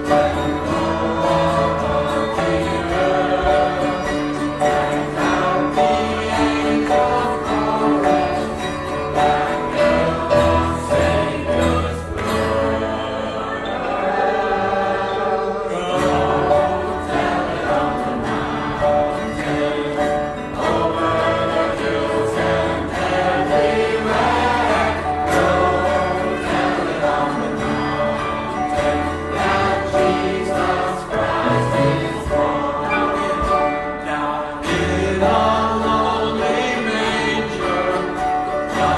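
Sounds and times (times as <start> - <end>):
choir singing a carol: 0.0 - 38.9.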